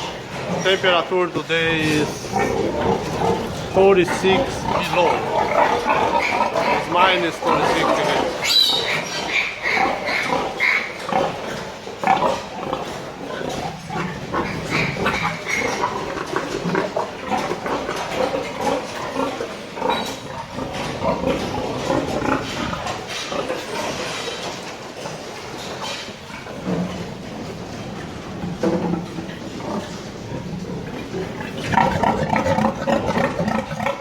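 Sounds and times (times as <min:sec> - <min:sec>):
pigs grunting and squealing: 0:00.0 - 0:34.0.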